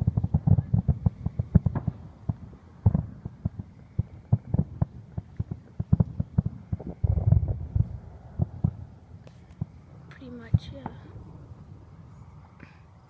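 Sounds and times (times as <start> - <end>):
fireworks popping and thumping: 0.0 - 11.2.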